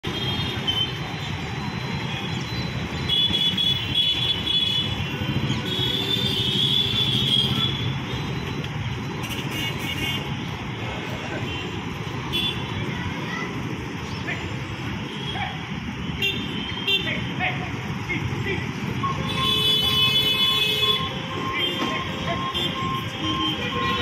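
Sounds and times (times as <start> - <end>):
motorcycle and scooter engines: 0.0 - 24.0.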